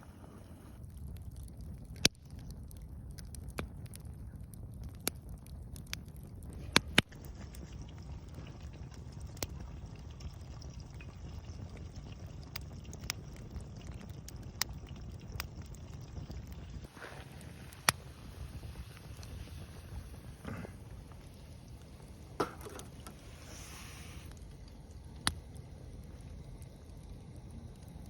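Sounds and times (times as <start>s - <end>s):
low fire rumble: 0.0s - 28.0s
wood fire popping: 0.0s - 28.0s.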